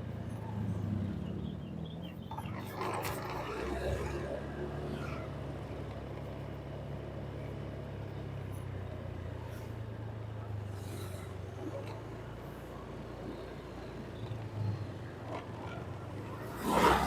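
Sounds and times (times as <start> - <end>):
faint road noise: 0.0 - 17.0.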